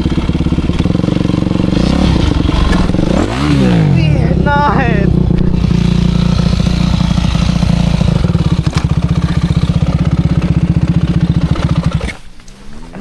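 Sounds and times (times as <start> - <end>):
motorbike engine idling: 0.0 - 12.2.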